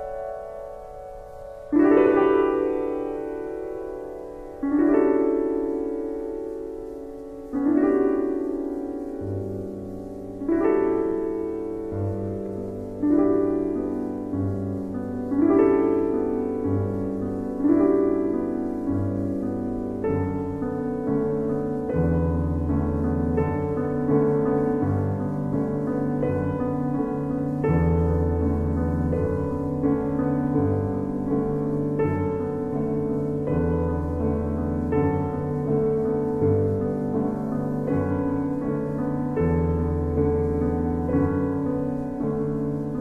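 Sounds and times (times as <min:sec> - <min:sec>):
low piano bass line: 0:00.0 - 0:43.0
piano chords: 0:00.0 - 0:43.0.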